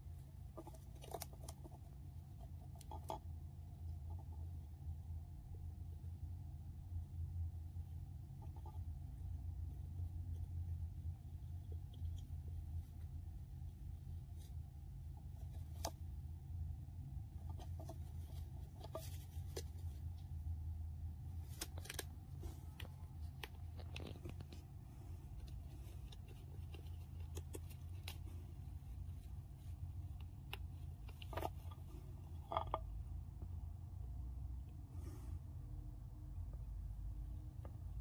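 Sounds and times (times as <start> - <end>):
hamster gnawing seeds: 0.0 - 33.8
low steady hum: 0.0 - 38.0.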